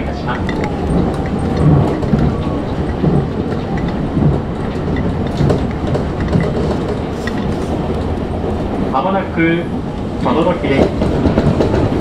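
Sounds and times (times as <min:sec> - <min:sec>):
wheels rumbling on rail: 0:00.0 - 0:12.0
rail joint thumps: 0:00.2 - 0:08.9, 0:09.8 - 0:12.0.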